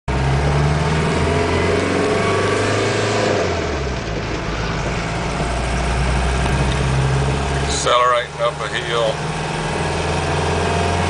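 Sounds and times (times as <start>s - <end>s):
diesel engine running: 0.1s - 11.0s.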